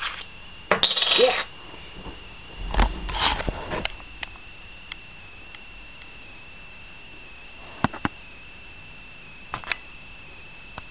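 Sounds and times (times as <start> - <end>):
high-pitched electronic whine: 0.0 - 10.9.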